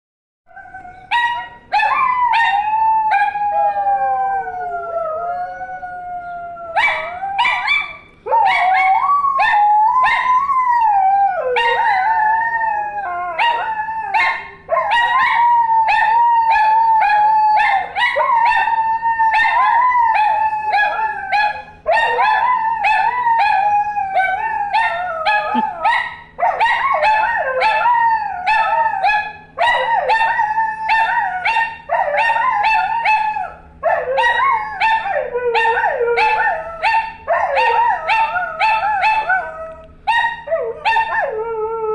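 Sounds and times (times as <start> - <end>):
dog howling: 0.5 - 41.9.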